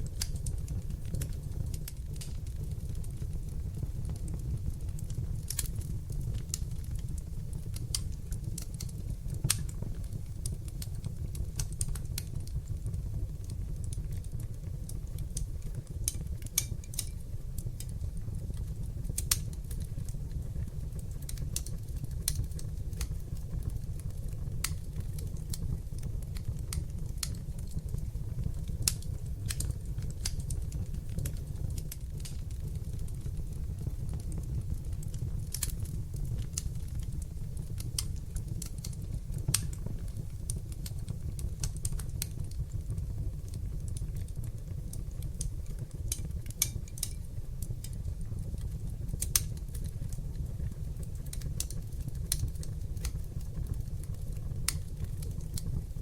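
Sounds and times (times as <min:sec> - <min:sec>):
fire crackling and popping: 0:00.0 - 0:56.0
fire rumbling in a fireplace: 0:00.0 - 0:56.0.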